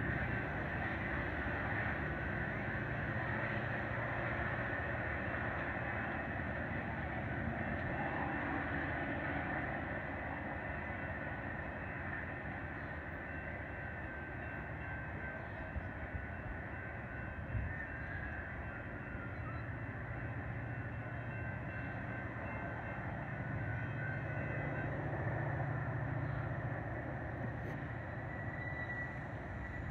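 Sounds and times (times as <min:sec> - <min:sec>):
distant train rumble: 0:00.0 - 0:29.9.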